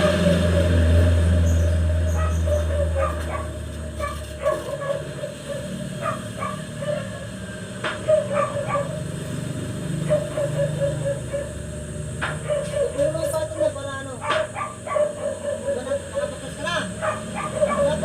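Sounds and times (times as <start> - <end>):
dog barking and yipping: 2.1 - 9.1, 10.0 - 18.0.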